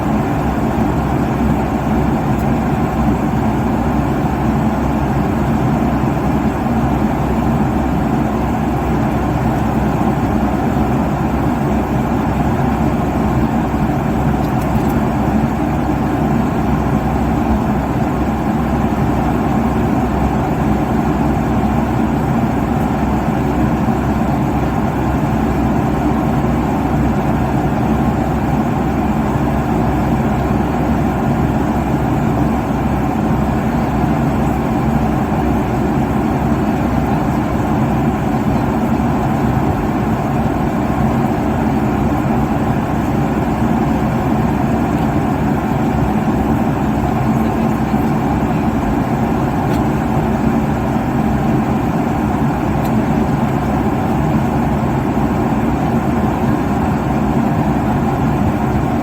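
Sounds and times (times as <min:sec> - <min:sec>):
airliner cabin rush: 0:00.0 - 0:59.0.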